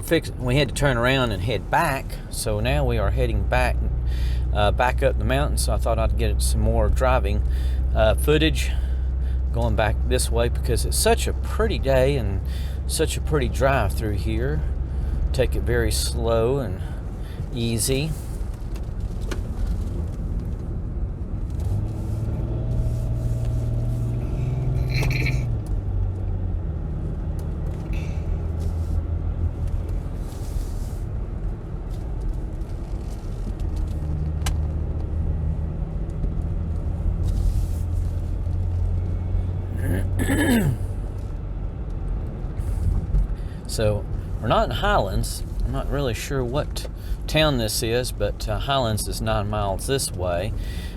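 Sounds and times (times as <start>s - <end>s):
car engine and tyre drone: 0.0s - 50.9s.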